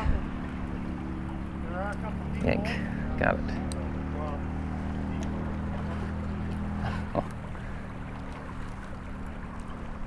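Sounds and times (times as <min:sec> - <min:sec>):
small stream rushing: 0:00.0 - 0:10.0.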